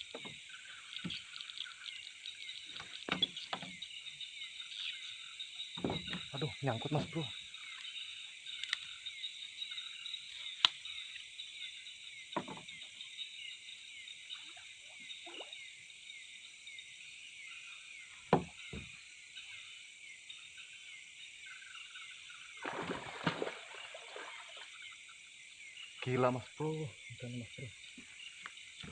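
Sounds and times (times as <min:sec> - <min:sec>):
crickets and insects chirping: 0:00.0 - 0:28.9.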